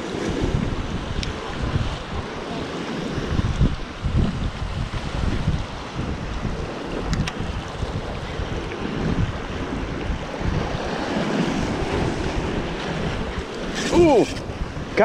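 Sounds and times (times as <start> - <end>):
waves breaking over rocks: 0.0 - 15.0
wind buffeting microphone: 0.0 - 15.0.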